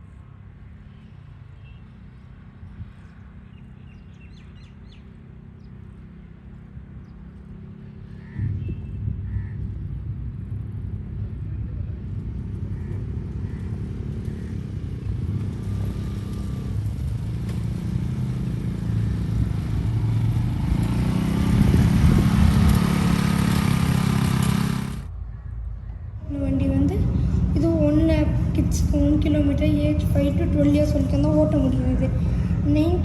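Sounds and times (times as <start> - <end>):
quad bike engine running: 0.7 - 25.1, 26.3 - 33.0.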